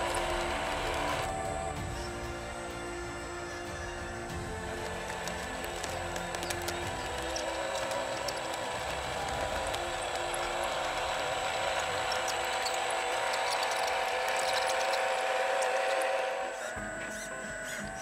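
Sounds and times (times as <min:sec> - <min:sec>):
hydraulic pump whining: 0:00.0 - 0:18.0.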